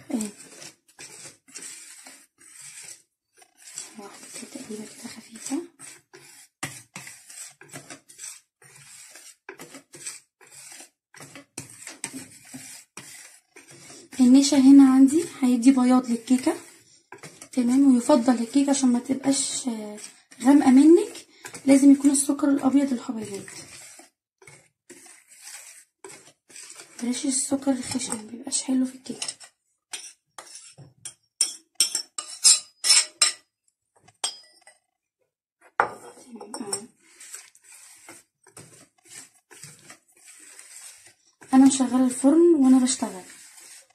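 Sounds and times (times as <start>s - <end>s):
whisk scraping plastic bowl: 0.0s - 33.4s, 35.6s - 43.9s.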